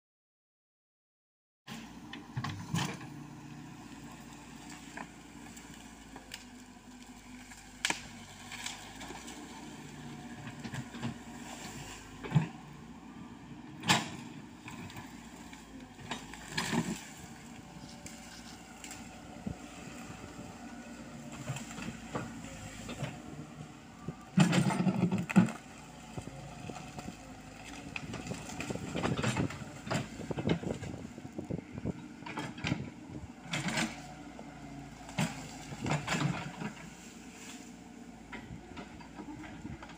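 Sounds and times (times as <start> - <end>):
excavator diesel engine running: 1.7 - 39.9.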